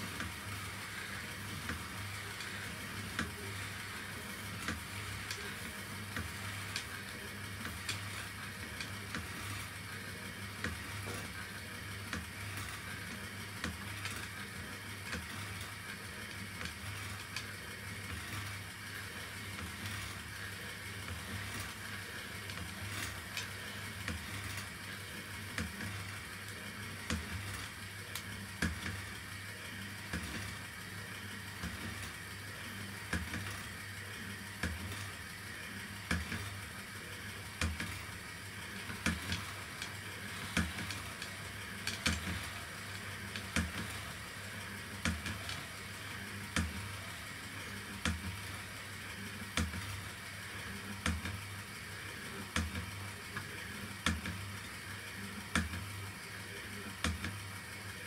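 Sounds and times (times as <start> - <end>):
roll-sign mechanism whirring: 0.0 - 58.0.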